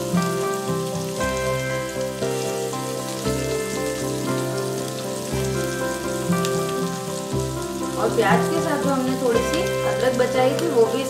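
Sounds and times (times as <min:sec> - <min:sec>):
background music of sustained chords: 0:00.0 - 0:11.0
onion and garlic sizzling in oil: 0:00.0 - 0:11.0.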